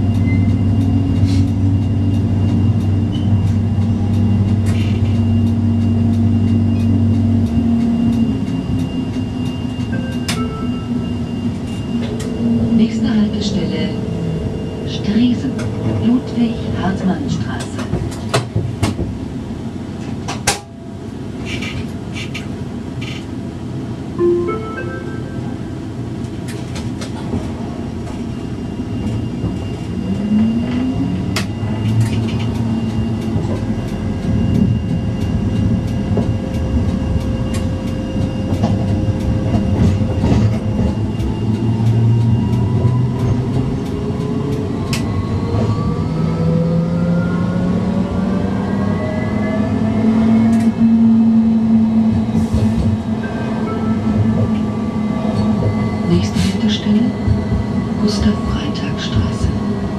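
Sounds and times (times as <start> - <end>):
tram rolling rumble: 0.0 - 59.9.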